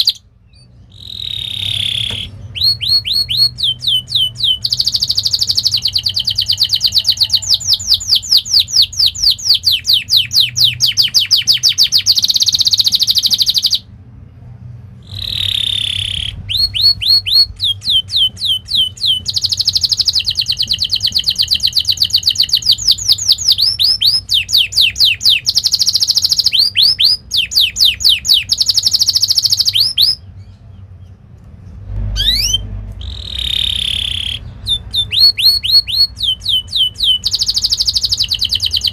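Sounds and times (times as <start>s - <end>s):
canary singing trills: 0.0s - 14.0s, 15.0s - 31.3s, 32.1s - 38.9s.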